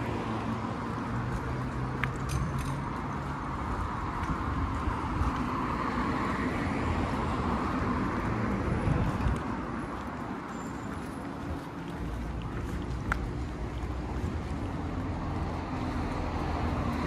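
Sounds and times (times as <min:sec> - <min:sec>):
road traffic rush: 0:00.0 - 0:17.0.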